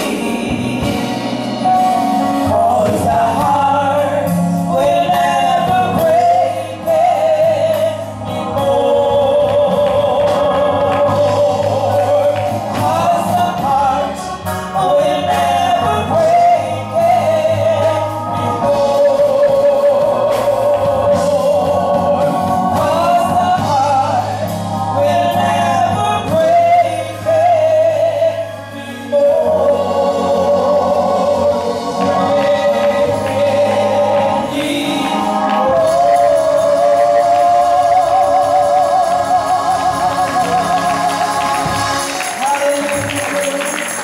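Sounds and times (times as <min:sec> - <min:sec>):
low musical accompaniment: 0:00.0 - 0:44.0
women singing gospel song: 0:00.0 - 0:44.0.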